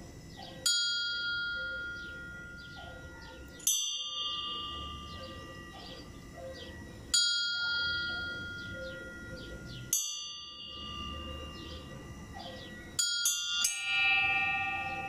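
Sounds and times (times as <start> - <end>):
bell tolling: 0.7 - 15.0.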